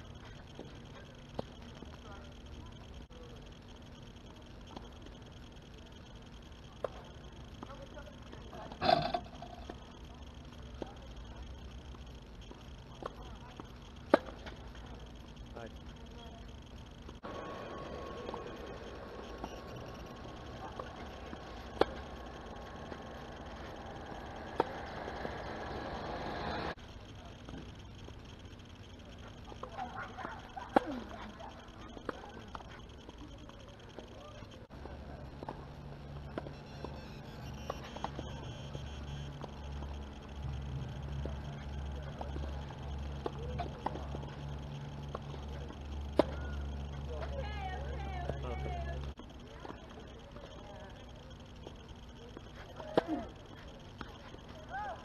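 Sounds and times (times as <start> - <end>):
steady outdoor rush: 0.0 - 55.0.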